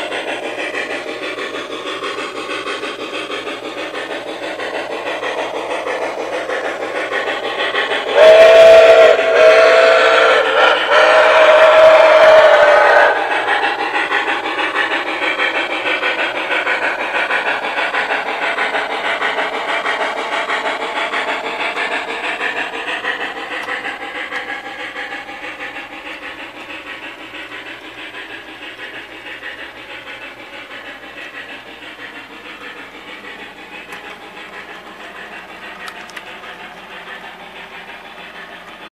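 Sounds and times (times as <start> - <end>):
model steam locomotive chuffing: 0.0 - 38.9
train rolling: 0.0 - 38.9.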